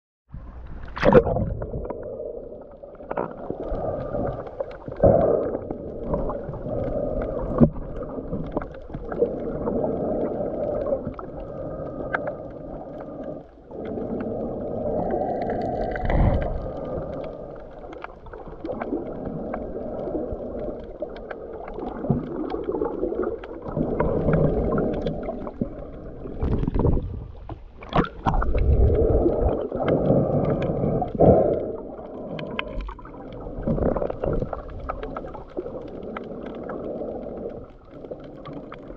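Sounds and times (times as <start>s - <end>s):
underwater rushing water: 0.4s - 38.9s.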